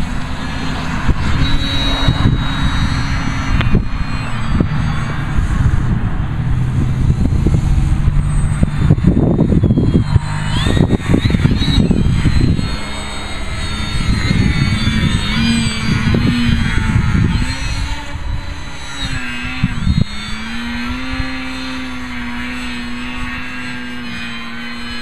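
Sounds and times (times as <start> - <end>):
electric motor and propeller whining: 0.0 - 25.0
wind buffeting microphone: 0.0 - 25.0.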